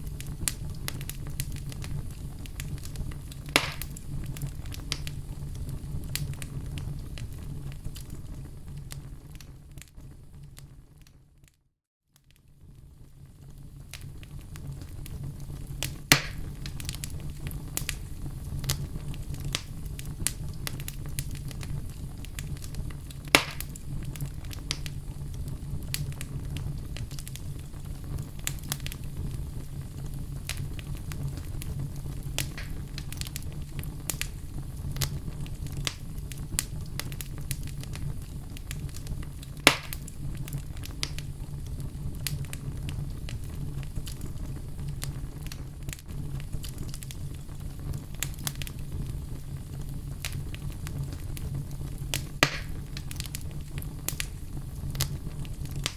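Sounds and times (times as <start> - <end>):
loud fire pops: 0.0 - 11.1, 12.2 - 55.9
fire crackling: 0.0 - 11.6, 12.2 - 55.9
fire rumbling: 0.0 - 11.6, 12.2 - 55.9.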